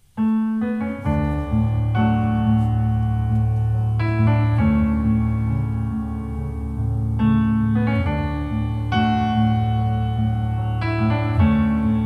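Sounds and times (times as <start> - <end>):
keyboard music over loudspeakers: 0.2 - 12.0.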